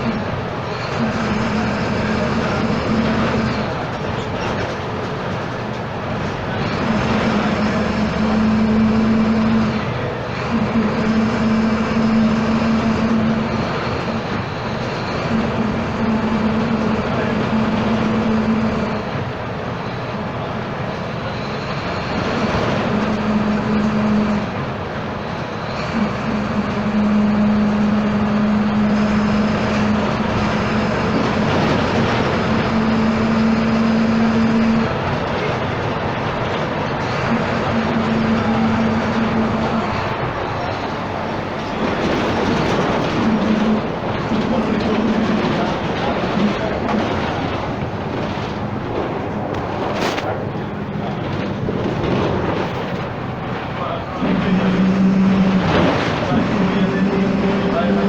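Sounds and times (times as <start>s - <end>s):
bus engine and road noise: 0.0s - 58.0s
strong droning hum: 0.0s - 58.0s.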